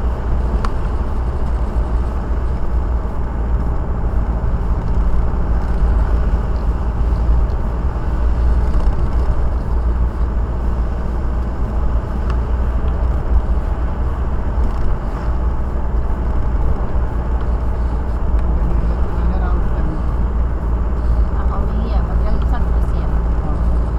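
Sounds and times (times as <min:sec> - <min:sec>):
car cabin road rumble: 0:00.0 - 0:23.9.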